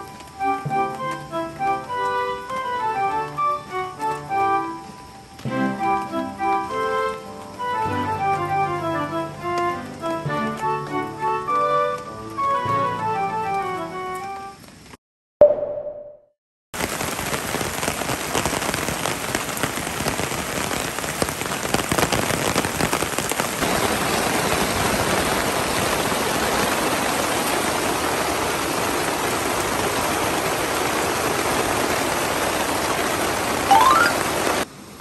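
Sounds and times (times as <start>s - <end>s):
heavy rain hissing: 0.0s - 14.9s, 16.8s - 35.0s.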